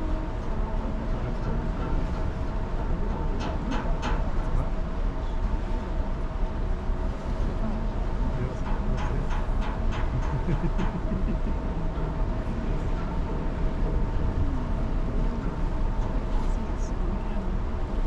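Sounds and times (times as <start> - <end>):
ship engine rumble: 0.0 - 18.0.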